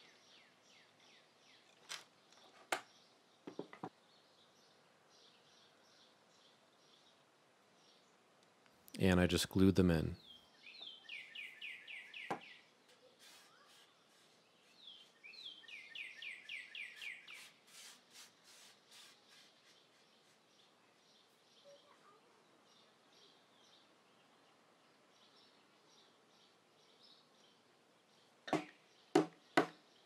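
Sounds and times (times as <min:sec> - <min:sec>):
faint bird song: 0:00.0 - 0:30.0.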